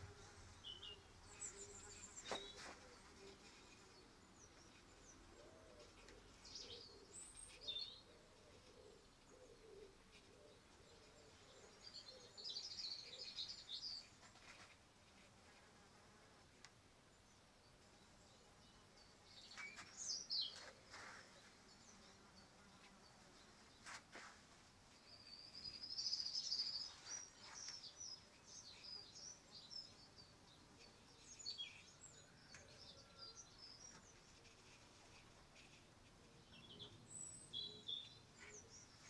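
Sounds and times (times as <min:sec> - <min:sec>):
small bird singing: 0:00.0 - 0:15.3, 0:17.1 - 0:39.0.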